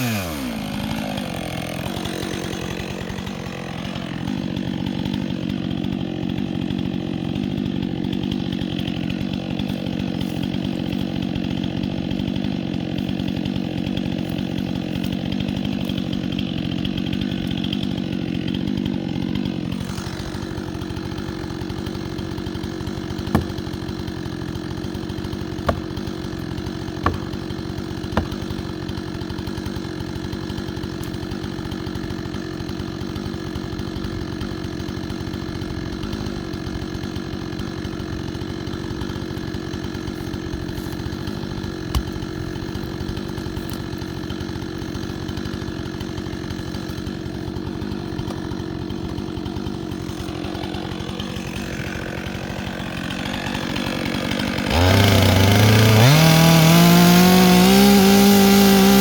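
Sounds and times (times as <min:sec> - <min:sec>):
chainsaw engine idling and revving: 0:00.0 - 0:59.0.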